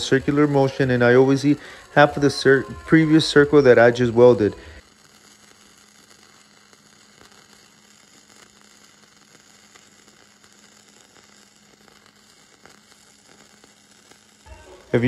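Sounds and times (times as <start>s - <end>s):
welding arc crackling hiss: 0.0s - 15.0s.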